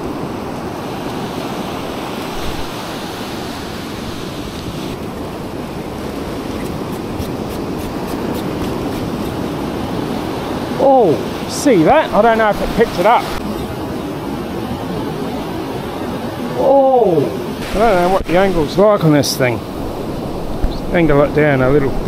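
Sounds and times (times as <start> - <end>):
ocean surf washing on sand: 0.0 - 22.0.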